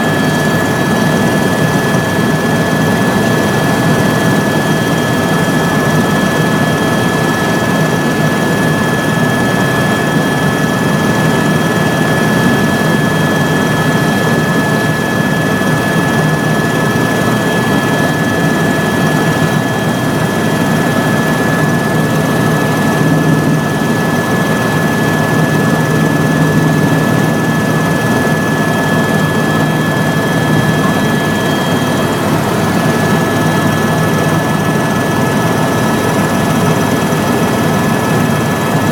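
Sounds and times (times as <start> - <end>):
high-pitched whine: 0.0 - 37.1
helicopter engine and rotor: 0.0 - 38.9.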